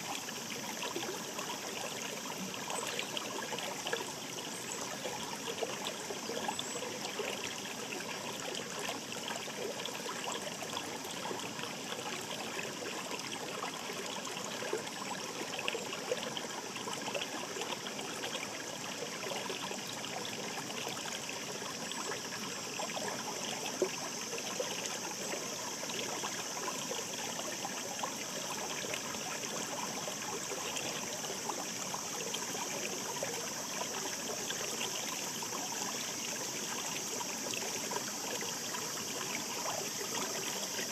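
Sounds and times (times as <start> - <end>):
stream babbling: 0.0 - 40.9
water trickling and splashing: 0.0 - 40.9.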